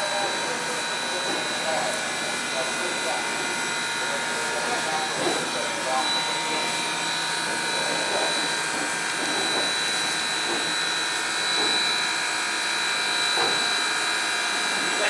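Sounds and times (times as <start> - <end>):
steam locomotive hiss and hum: 0.0 - 15.0.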